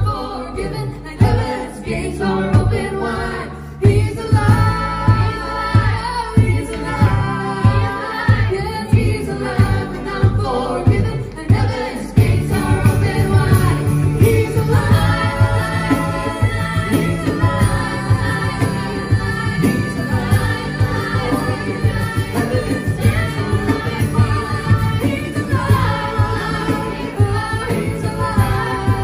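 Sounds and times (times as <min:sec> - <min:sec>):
group of voices singing: 0:00.0 - 0:29.0
guitars: 0:00.0 - 0:29.0
pulsing bass line: 0:00.0 - 0:29.0.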